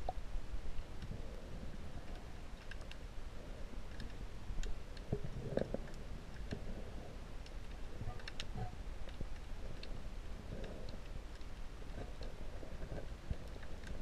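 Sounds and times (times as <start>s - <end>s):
muffled underwater rumble: 0.0s - 14.0s
faint clicks: 0.9s - 3.1s, 3.8s - 14.0s.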